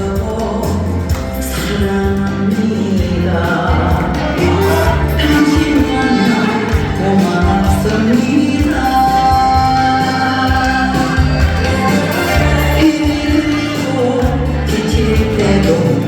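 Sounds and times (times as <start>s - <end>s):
backing track with bass beat: 0.0s - 16.0s
person singing: 0.0s - 16.0s.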